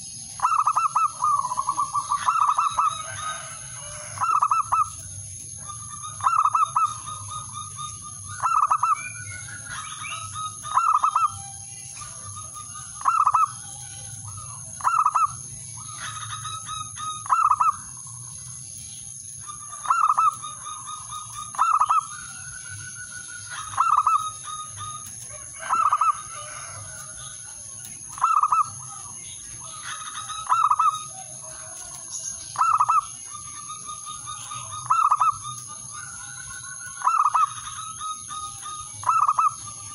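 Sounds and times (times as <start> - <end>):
dove cooing: 0.0 - 18.4, 19.4 - 39.9.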